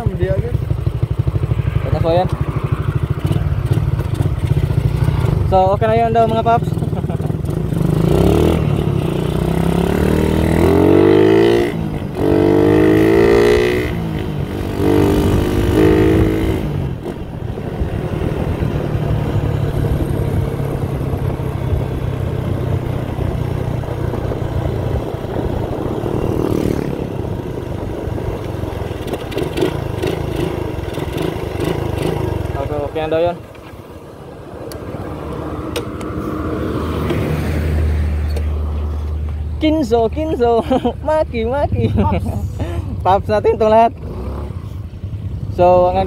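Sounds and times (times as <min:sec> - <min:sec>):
motorcycle engine accelerating: 0:00.0 - 0:39.5.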